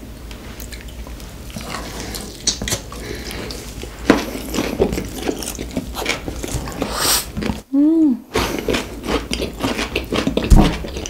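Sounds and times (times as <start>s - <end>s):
crunching and chewing food: 0.3s - 7.7s, 8.3s - 11.0s.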